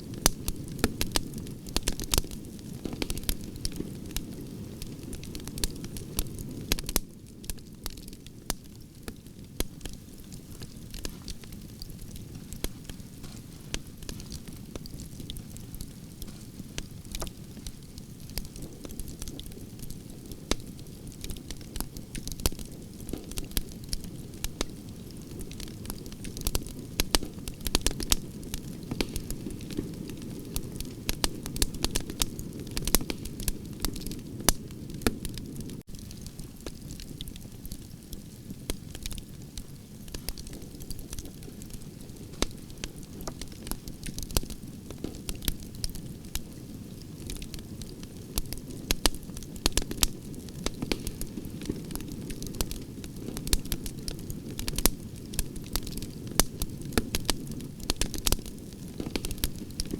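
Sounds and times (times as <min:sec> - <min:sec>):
burning branches crackling and popping: 0:00.0 - 0:59.9
campfire flames rumbling: 0:00.0 - 0:59.9.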